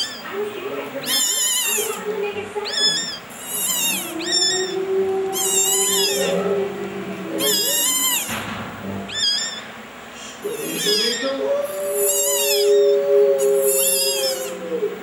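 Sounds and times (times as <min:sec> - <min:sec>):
kitten mewling: 0:01.0 - 0:08.4, 0:09.1 - 0:09.6, 0:10.4 - 0:15.0.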